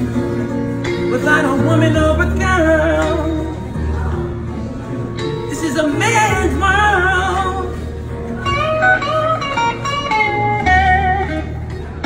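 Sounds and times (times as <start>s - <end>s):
bluesy electric guitar lead: 0.0s - 12.0s
low held bass notes: 0.0s - 12.0s.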